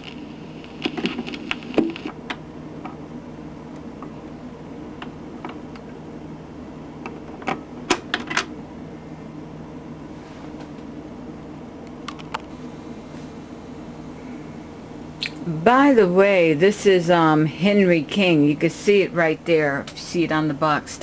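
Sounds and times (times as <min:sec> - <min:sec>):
record player motor hum: 0:00.0 - 0:21.0.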